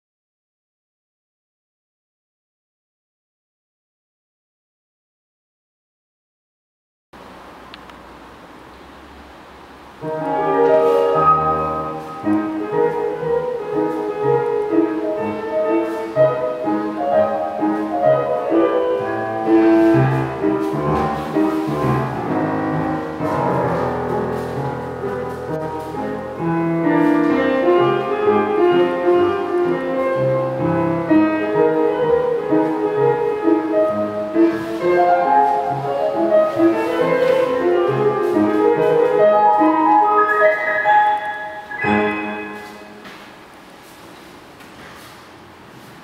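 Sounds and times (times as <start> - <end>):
classical piano music: 8.4 - 46.0.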